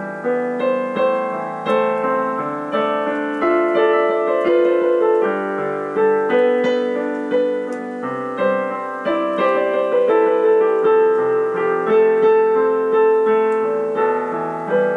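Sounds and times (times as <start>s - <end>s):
piano notes: 0.0s - 14.9s.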